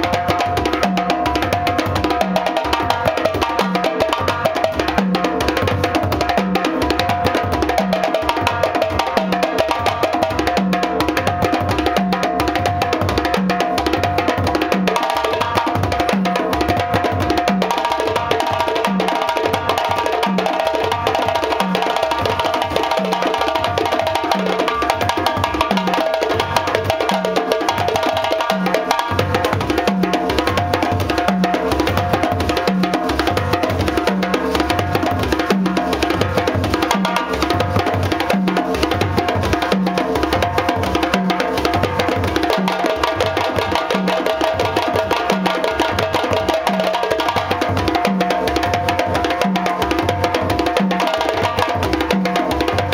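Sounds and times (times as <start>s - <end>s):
hand drums slapped and struck: 0.0s - 52.9s.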